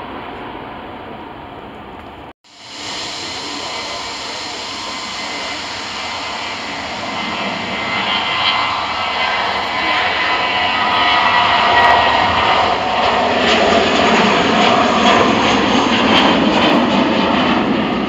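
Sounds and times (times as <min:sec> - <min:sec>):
jet engine whine: 0:00.0 - 0:18.0
jet engines at takeoff power: 0:00.0 - 0:18.0.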